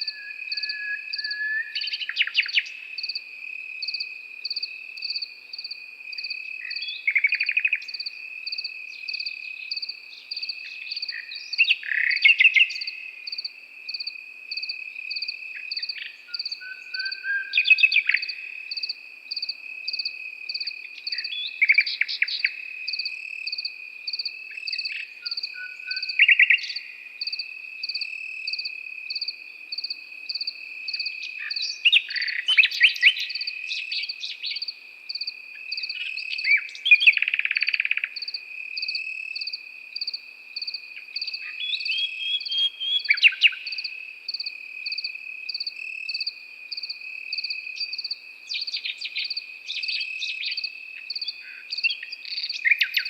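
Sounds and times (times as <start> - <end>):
cricket pulsing chirp: 0.0 - 53.0
nightingale singing: 0.0 - 53.0.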